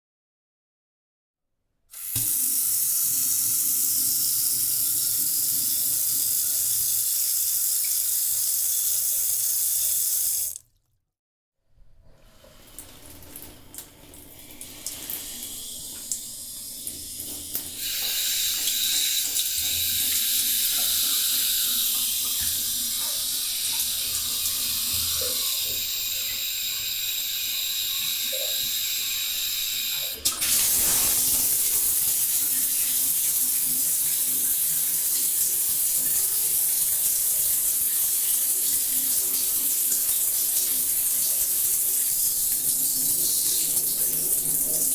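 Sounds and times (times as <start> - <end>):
water running into bathtub: 2.0 - 10.8, 12.0 - 44.9.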